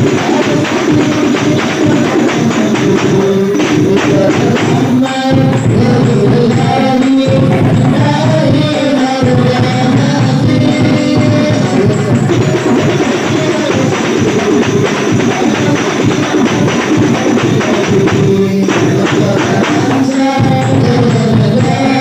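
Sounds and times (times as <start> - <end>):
frame drums playing fast rhythm: 0.0 - 22.0.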